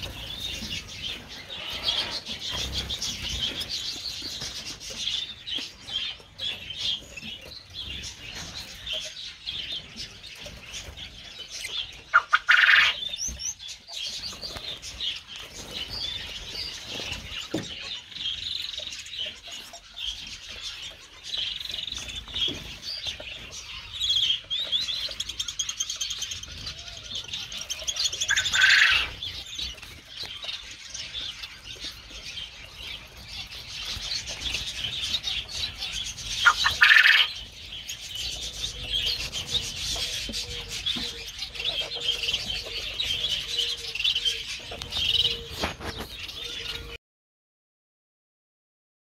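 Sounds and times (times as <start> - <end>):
flock of birds chirping: 0.0 - 47.0
harsh bird calls: 0.0 - 47.0.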